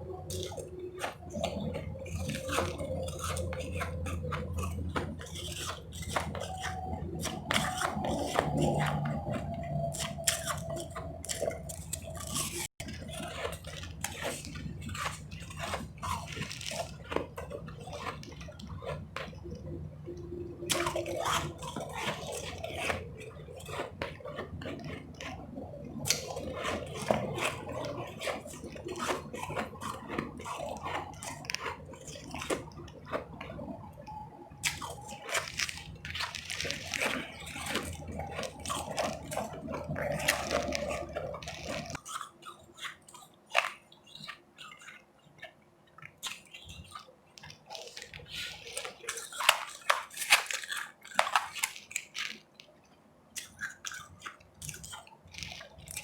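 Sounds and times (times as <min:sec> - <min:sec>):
chewing crunchy ice chips: 0:00.0 - 0:56.0.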